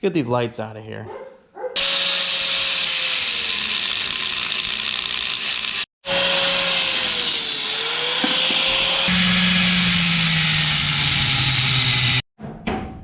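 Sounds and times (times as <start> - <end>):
angle grinder cutting steel: 1.8 - 12.2.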